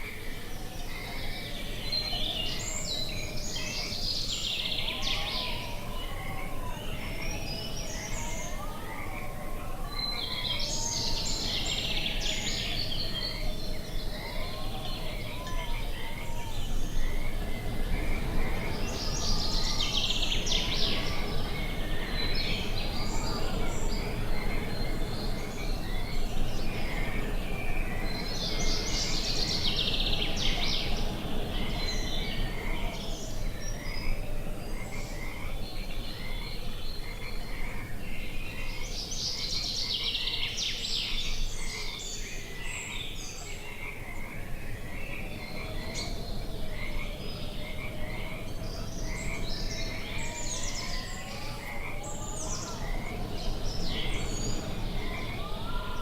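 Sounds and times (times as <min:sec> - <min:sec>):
bird song phrase: 0:00.0 - 0:56.0.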